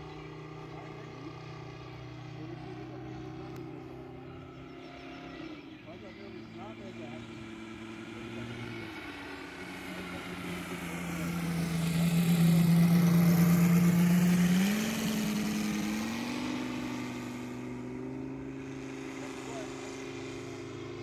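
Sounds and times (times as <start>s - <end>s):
model aircraft engine flying past: 0.0s - 21.0s.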